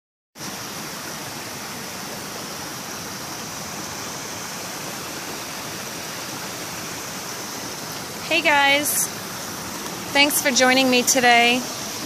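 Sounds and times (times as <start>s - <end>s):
river water rushing: 0.4s - 12.0s.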